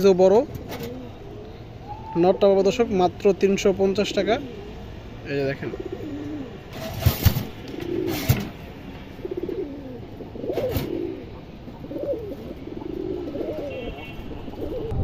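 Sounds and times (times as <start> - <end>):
pigeons cooing: 0.0 - 2.7, 3.8 - 15.0.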